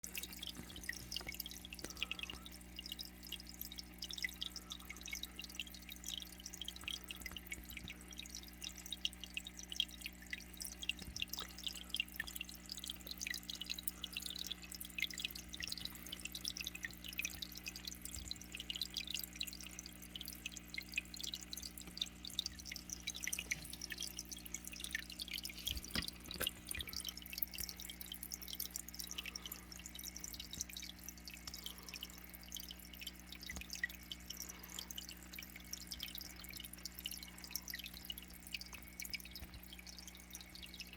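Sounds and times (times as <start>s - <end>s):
water dripping in a fish tank: 0.0s - 40.9s.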